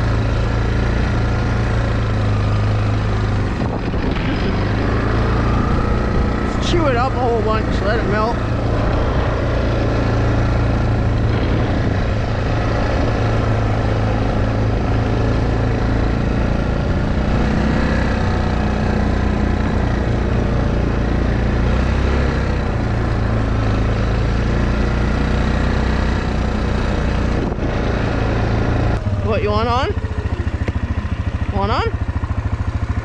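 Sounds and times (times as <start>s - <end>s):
atv engine droning: 0.0s - 33.0s.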